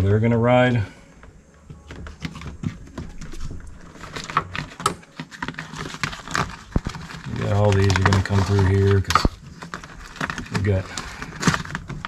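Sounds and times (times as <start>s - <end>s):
plastic crinkling: 1.8s - 12.0s.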